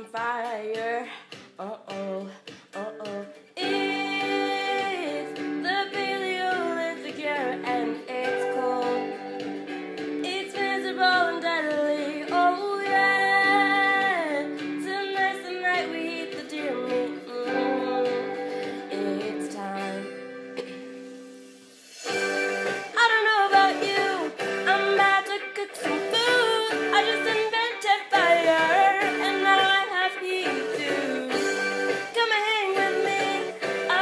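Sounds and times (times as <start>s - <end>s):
person singing a melody: 0.0s - 20.7s, 22.9s - 34.0s
guitar: 0.0s - 34.0s.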